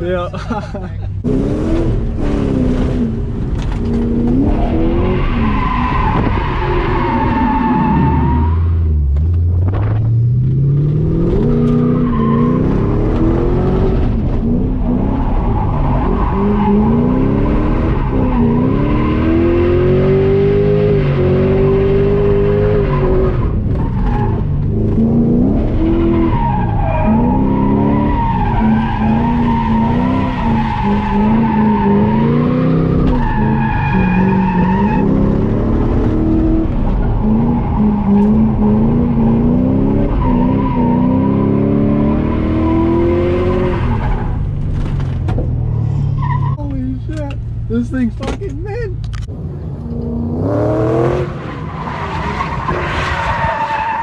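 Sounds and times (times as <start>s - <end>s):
car engine revving: 1.2s - 54.0s.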